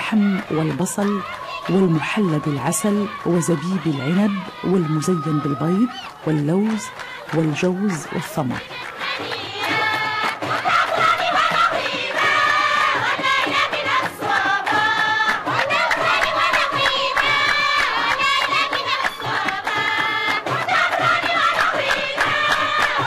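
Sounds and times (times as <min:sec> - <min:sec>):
rhythmic hand clapping: 0:00.0 - 0:23.0
women singing in chorus: 0:00.0 - 0:23.0.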